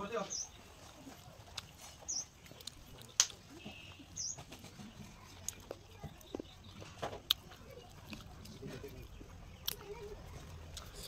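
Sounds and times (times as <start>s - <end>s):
fingers mixing rice and curry: 0.0s - 11.0s.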